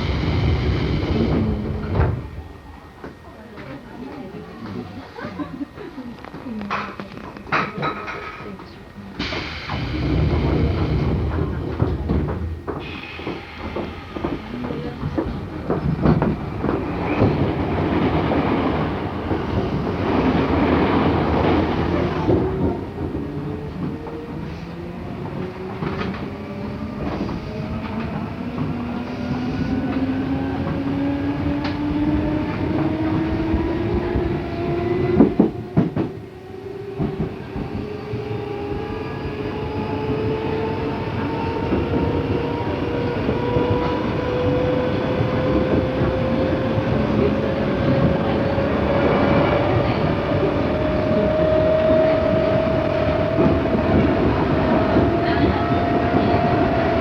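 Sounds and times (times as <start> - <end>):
electric train rail-joint clatter: 0.0 - 38.6, 39.4 - 57.0.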